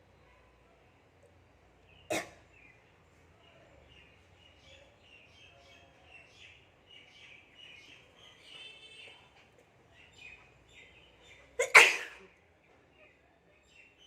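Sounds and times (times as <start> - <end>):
small birds chirping: 0.0 - 11.7, 12.3 - 14.0.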